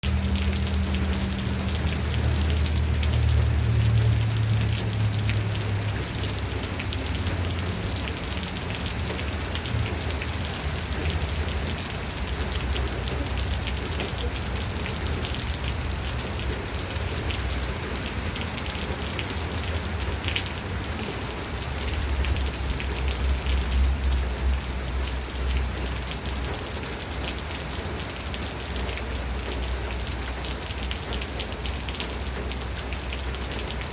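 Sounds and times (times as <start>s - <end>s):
rain falling on a surface: 0.0s - 33.9s.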